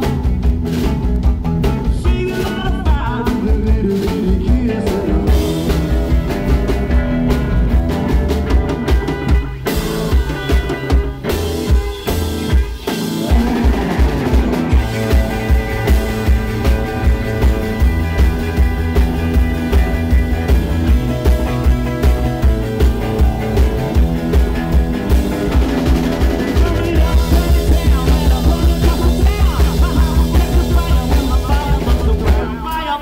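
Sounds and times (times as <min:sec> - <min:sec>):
drum kit beat: 0:00.0 - 0:33.0
electric guitar: 0:00.0 - 0:33.0
rock band playing: 0:00.0 - 0:33.0.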